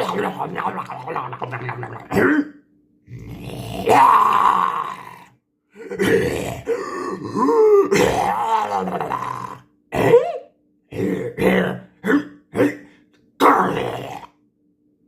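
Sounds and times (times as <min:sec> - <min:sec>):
person imitating dinosaur calls: 0:00.0 - 0:14.4.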